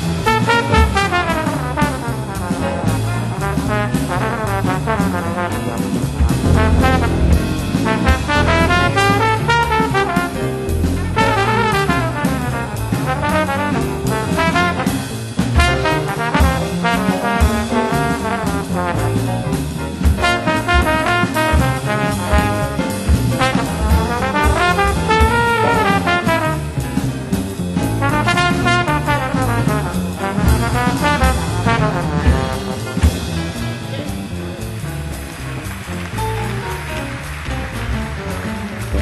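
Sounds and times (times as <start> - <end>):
drums: 0.0 - 39.0
trombone jazz solo: 0.0 - 39.0
walking bass: 0.0 - 39.0.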